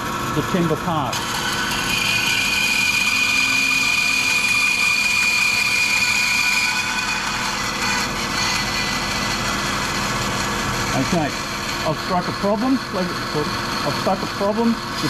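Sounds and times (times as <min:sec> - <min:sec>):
bandsaw running: 0:00.0 - 0:15.0
high tone of saw cutting: 0:00.9 - 0:15.0.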